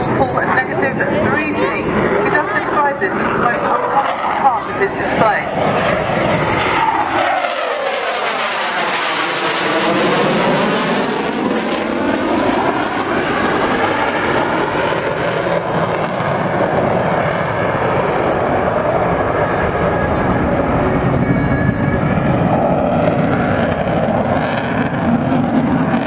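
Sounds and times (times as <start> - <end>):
jet flying past: 0.0 - 26.0.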